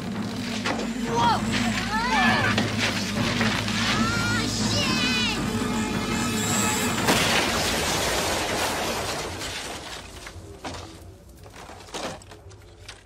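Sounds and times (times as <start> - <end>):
debris crashing and shattering: 0.0 - 13.0.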